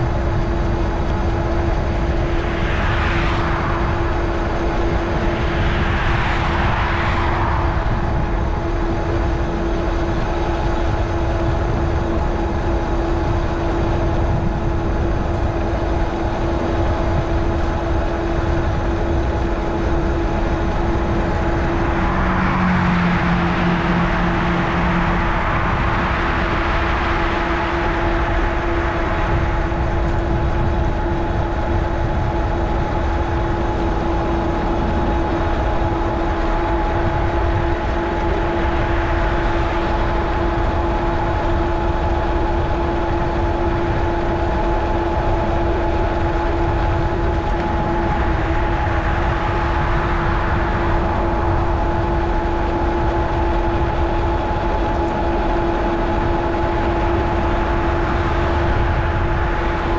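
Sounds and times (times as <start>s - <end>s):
steady hum: 0.0s - 59.9s
wind on microphone: 0.0s - 59.9s.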